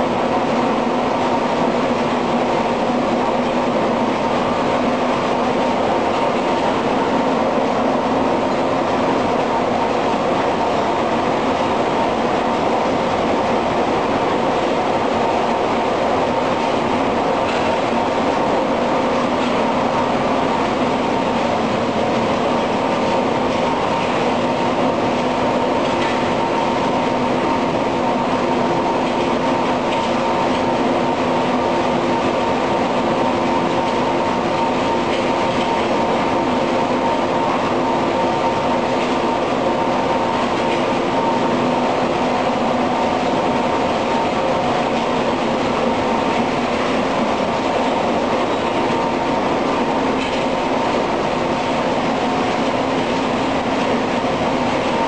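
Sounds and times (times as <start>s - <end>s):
roller mill machinery hum: 0.0s - 55.0s.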